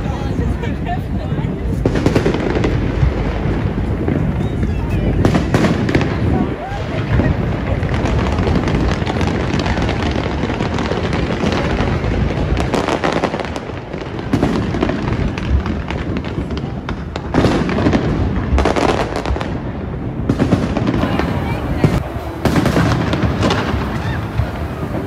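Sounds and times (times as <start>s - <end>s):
fireworks crackling: 0.0s - 25.0s.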